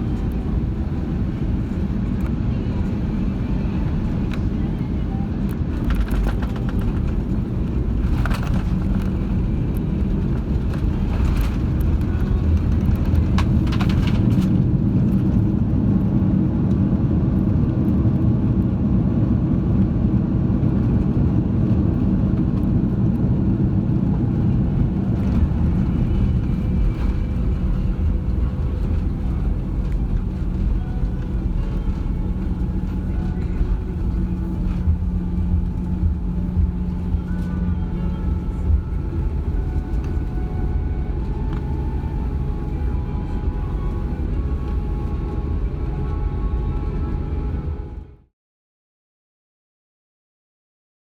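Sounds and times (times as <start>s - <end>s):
airplane cabin engine rumble: 0.0s - 48.3s.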